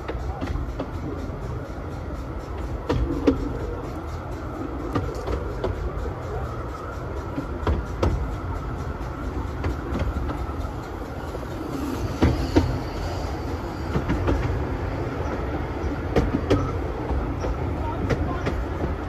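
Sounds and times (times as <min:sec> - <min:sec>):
steam hissing: 0:00.0 - 0:19.0
train wheels rumbling: 0:00.0 - 0:19.0
wheels clicking over rail joints: 0:00.0 - 0:19.0.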